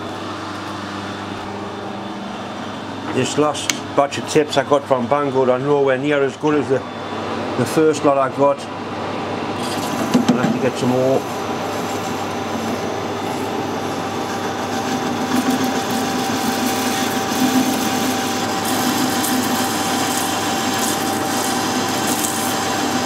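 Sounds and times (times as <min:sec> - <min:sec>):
metal lathe whine: 0:00.0 - 0:23.0.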